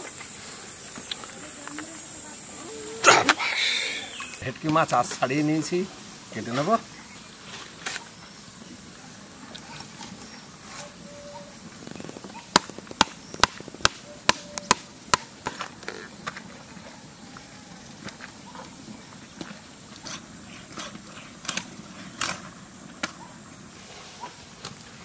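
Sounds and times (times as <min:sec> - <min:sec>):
steady high-pitched hiss: 0:00.0 - 0:25.0.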